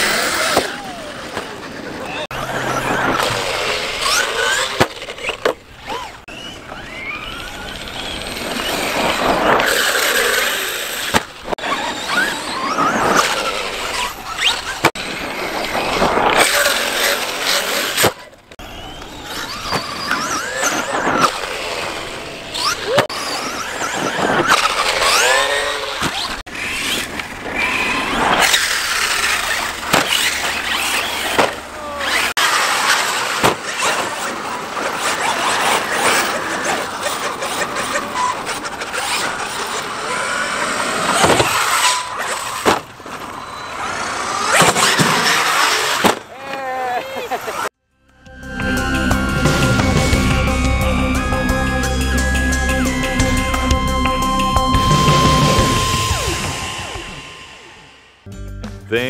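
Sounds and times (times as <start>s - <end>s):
electric toy truck motors whining: 0.0s - 58.3s.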